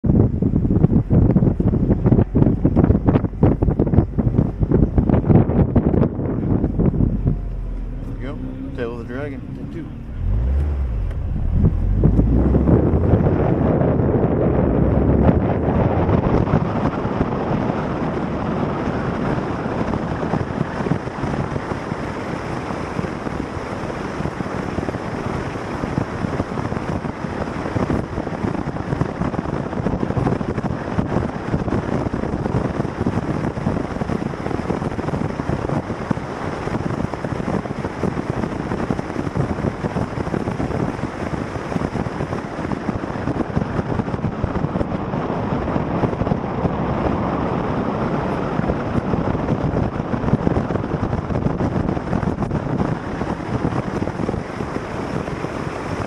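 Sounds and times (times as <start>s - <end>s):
vehicle running noise: 0.0s - 56.0s
wind buffeting microphone: 0.0s - 56.0s.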